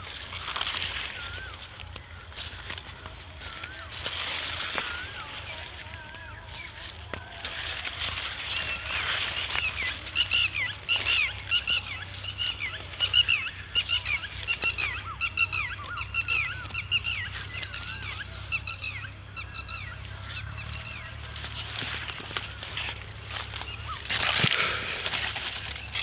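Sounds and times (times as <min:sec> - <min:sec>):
birds chirping rapidly: 0:00.0 - 0:26.0.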